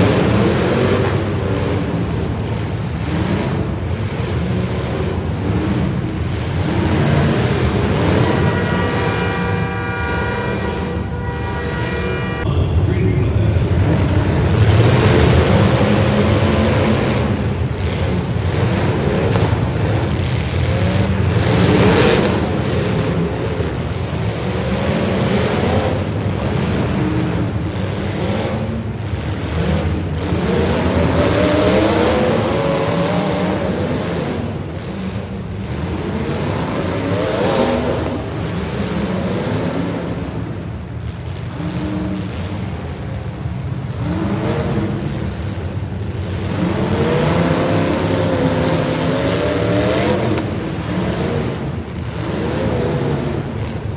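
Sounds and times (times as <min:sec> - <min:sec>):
car engines revving: 0:00.0 - 0:53.9
cars colliding: 0:00.0 - 0:53.9.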